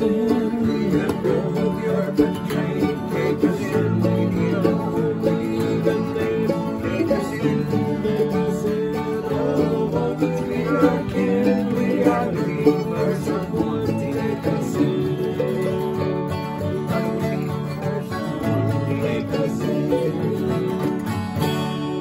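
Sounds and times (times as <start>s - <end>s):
acoustic guitars playing bluegrass: 0.0s - 22.0s.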